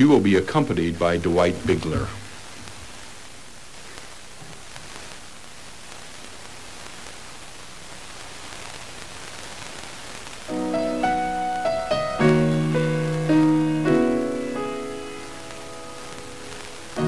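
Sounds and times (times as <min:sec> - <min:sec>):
faint hall room tone: 0:00.0 - 0:17.0
recording hiss: 0:00.0 - 0:17.0.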